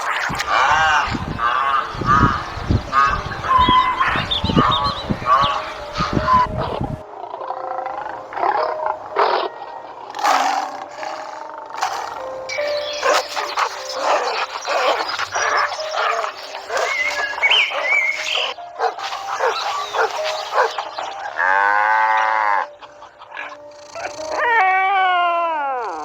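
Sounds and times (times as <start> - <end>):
animal calls: 0.0 - 26.0
background music: 0.0 - 26.0.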